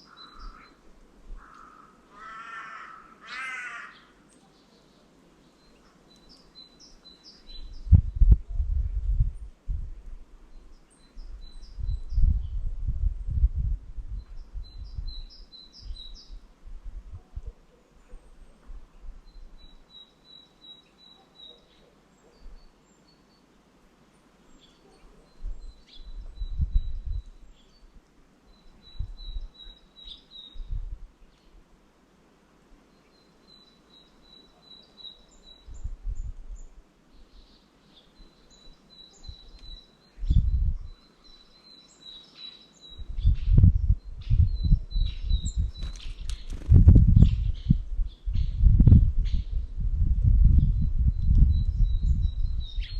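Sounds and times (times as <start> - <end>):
small songbirds calling: 0.0 - 8.4, 10.4 - 16.5, 17.3 - 31.6, 32.8 - 49.8, 50.5 - 52.9.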